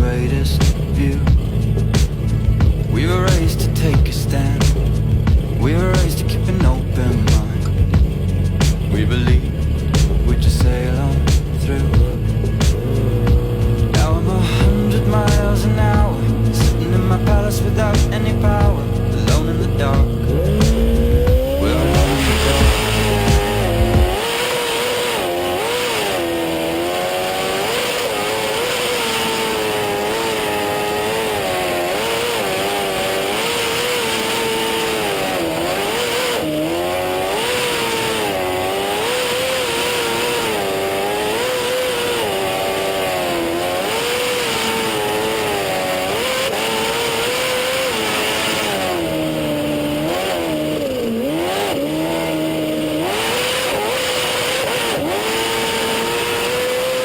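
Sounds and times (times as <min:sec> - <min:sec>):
jet boat engine revving: 0:00.0 - 0:57.0.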